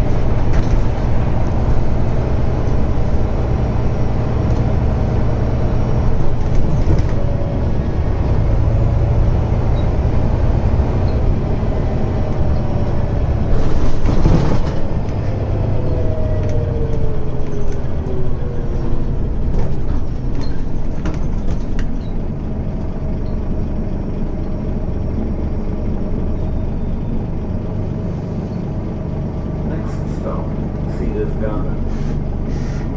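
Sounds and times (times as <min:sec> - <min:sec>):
bus engine rumbling: 0:00.0 - 0:32.9.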